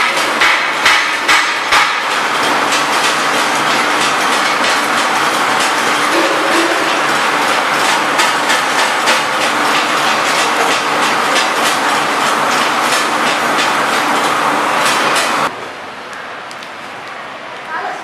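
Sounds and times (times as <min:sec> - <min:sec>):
wrapping machine clattering: 0:00.0 - 0:15.5.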